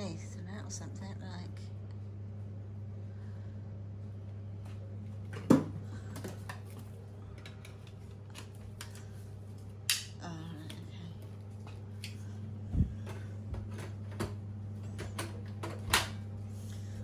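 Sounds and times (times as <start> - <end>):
low hum: 0.0 - 15.6.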